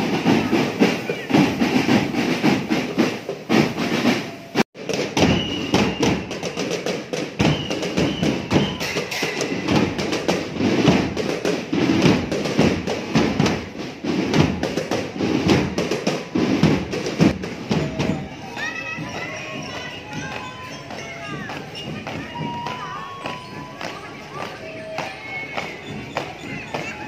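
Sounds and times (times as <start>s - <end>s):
marching drum band: 0.0s - 27.0s.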